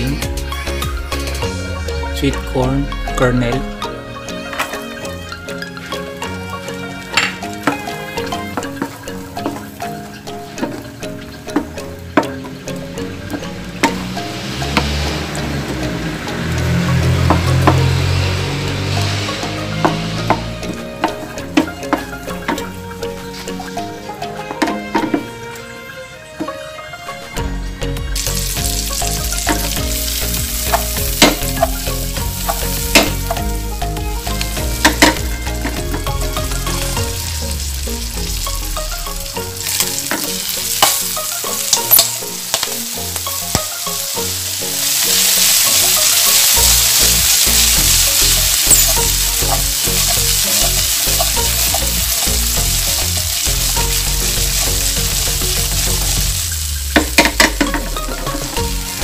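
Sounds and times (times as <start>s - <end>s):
corn sizzling in frying pan: 5.6s - 25.1s, 28.1s - 59.0s.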